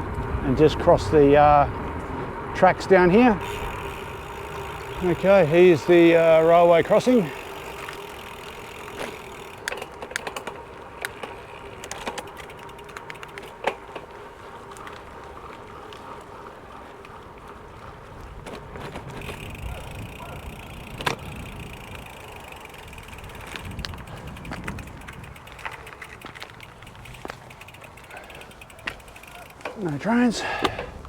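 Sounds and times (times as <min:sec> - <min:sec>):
bike tyre rolling noise: 0:00.0 - 0:31.0
bike clicks and knocks: 0:03.3 - 0:17.6, 0:18.2 - 0:31.0.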